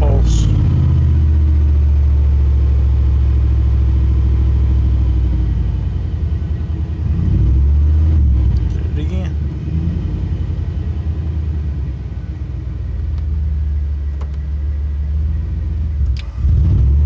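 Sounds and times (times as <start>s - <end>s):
vehicle engine running unsteadily: 0.0s - 17.0s.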